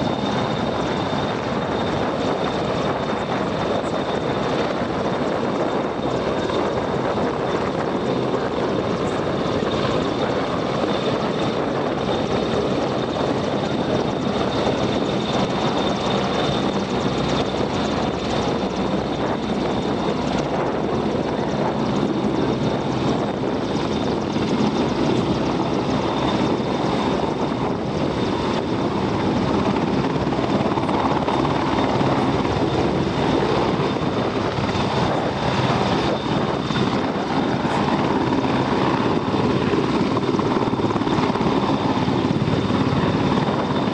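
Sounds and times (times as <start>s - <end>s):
helicopter rotor and engine: 0.0s - 43.9s
high turbine whine: 0.0s - 43.9s.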